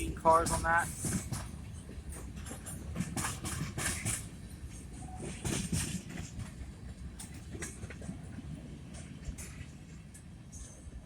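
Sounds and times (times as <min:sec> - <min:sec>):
clanks of wheels and couplings: 0:00.0 - 0:11.0
freight train rumbling on rails: 0:00.0 - 0:11.0.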